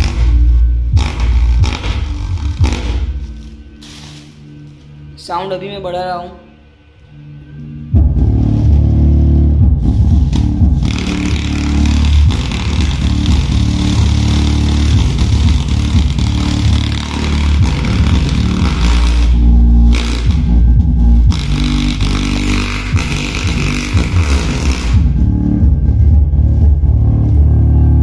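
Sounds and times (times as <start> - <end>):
bass-heavy music through subwoofer: 0.0 - 4.7, 7.5 - 28.0.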